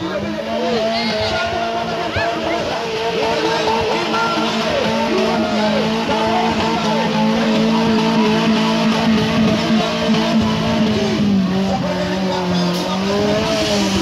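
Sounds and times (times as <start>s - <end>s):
music playing: 0.0s - 14.0s
off-road vehicle engine revving: 0.0s - 14.0s.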